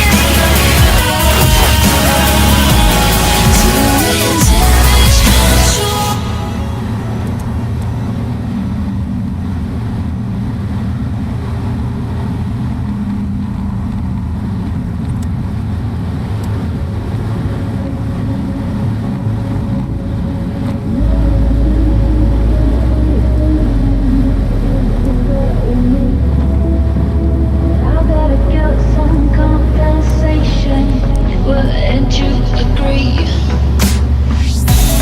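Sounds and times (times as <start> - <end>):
deep low rumble: 0.0 - 12.1, 17.0 - 35.0
truck engine and road drone: 0.0 - 35.0.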